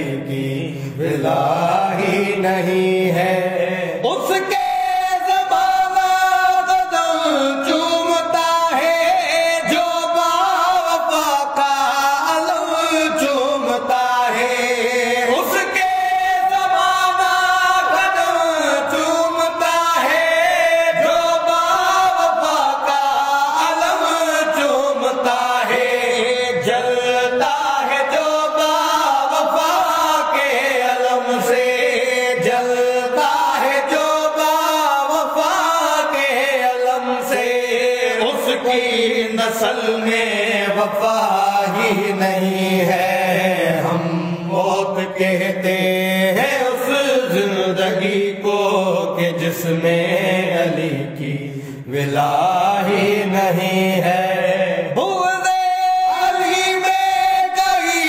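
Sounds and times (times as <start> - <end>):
men singing devotional song: 0.0 - 58.0.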